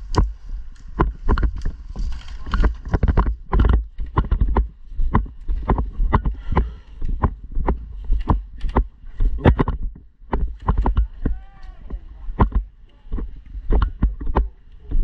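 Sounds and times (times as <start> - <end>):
footsteps walking: 0.0 - 15.0
rustling: 0.0 - 15.0.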